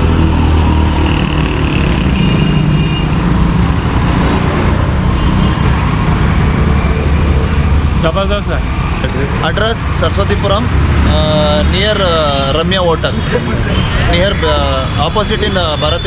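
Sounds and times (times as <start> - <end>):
vehicle engine rumbling: 0.0 - 16.0
vehicles passing: 0.0 - 16.0.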